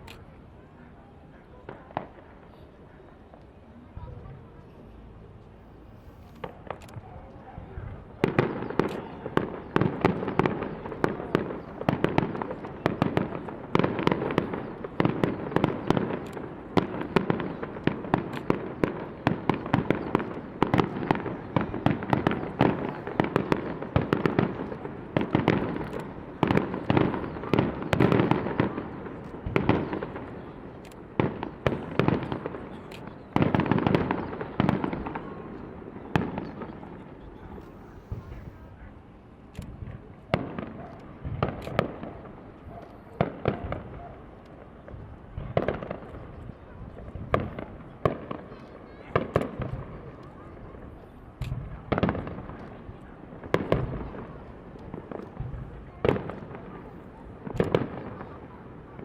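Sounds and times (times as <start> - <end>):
fireworks bursting: 1.5 - 59.0.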